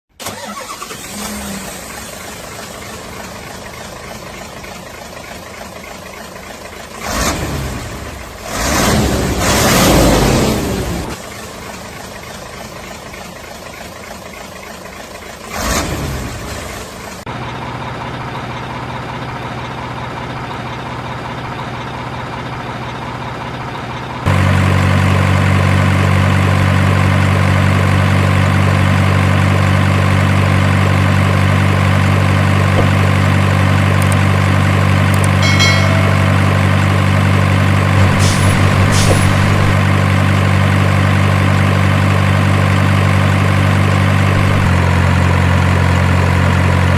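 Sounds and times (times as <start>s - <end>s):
truck engine idling: 0.2s - 8.5s, 10.8s - 15.5s, 16.6s - 46.9s.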